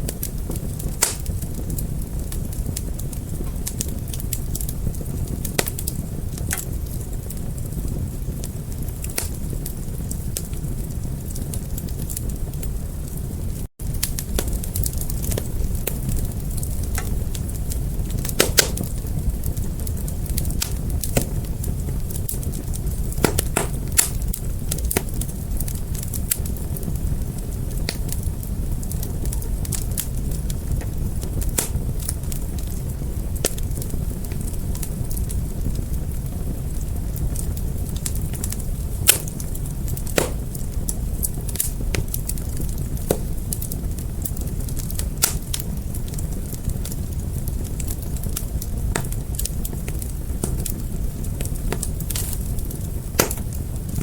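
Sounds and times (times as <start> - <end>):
fire crackles and pops: 0.0 - 54.0
low rush of flames: 0.0 - 54.0.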